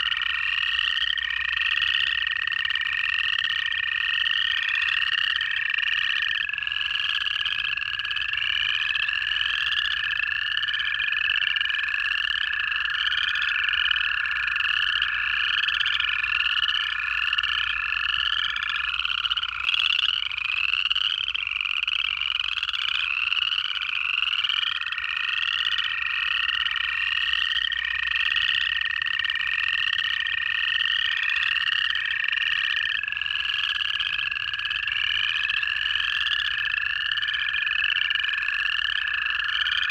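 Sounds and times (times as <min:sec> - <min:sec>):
chorus frogs rising trills: 0:00.0 - 0:39.9
toads long steady trills: 0:00.0 - 0:39.9.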